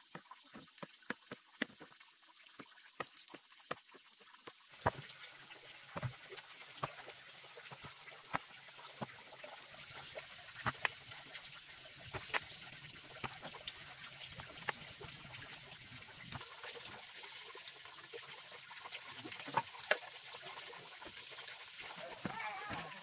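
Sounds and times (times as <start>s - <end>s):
water splashing: 0.0s - 23.0s.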